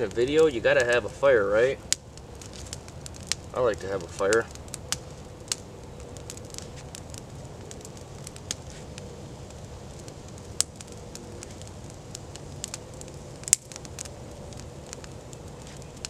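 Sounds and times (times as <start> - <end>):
campfire crackling: 0.0 - 16.0
sharp fire pops: 0.0 - 16.0.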